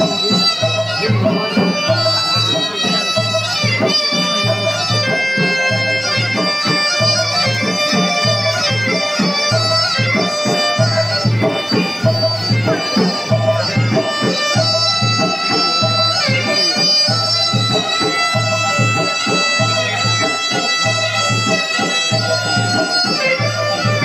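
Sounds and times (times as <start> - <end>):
low drum beats: 0.0 - 24.0
reedy wind instrument melody: 0.0 - 24.0.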